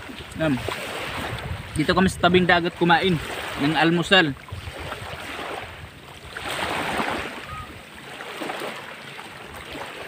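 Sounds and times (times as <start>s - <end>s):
small waves washing on shore: 0.0s - 10.0s.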